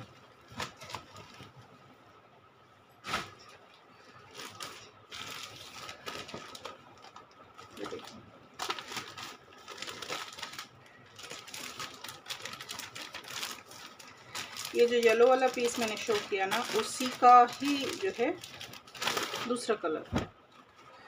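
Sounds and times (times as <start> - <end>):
plastic bag crinkling: 0.0 - 1.8, 3.0 - 21.0.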